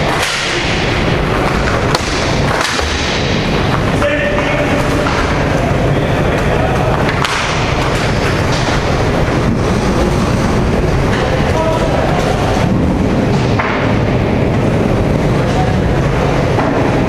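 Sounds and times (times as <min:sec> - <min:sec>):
distant voices: 0:00.0 - 0:17.0
loud rushing rumble: 0:00.0 - 0:17.0.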